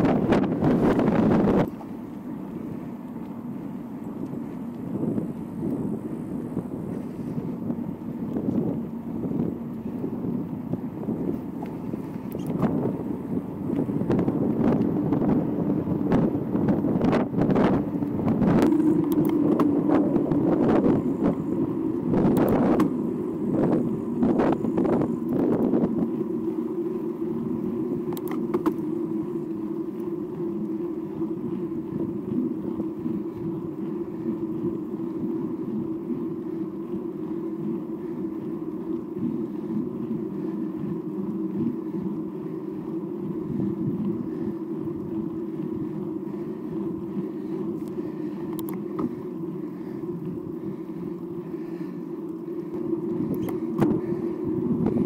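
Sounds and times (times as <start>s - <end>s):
bike tyre hum on asphalt: 0.0s - 55.0s
wind noise on microphone: 0.0s - 55.0s.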